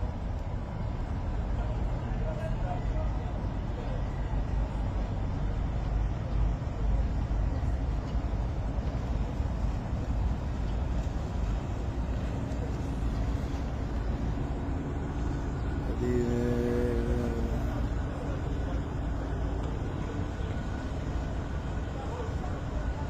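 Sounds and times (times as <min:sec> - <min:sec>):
boat engine rumble: 0:00.0 - 0:23.0.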